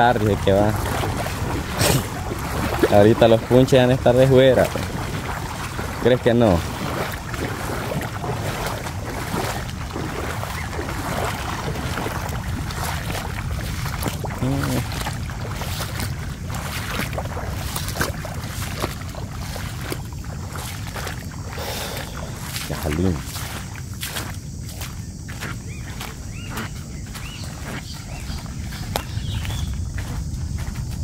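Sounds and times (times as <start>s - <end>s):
footsteps splashing through water: 0.0s - 31.0s.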